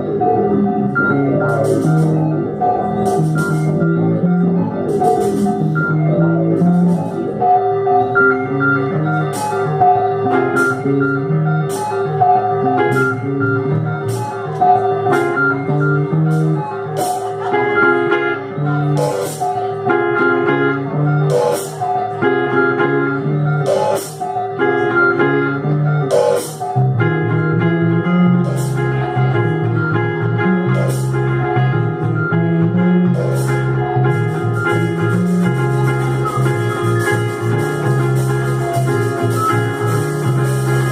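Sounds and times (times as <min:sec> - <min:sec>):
psychedelic rock jam: 0:00.0 - 0:40.9.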